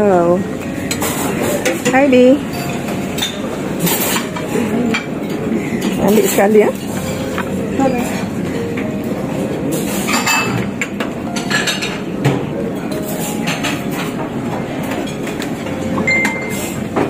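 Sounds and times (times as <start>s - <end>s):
plates and utensils clinking: 0.6s - 17.0s.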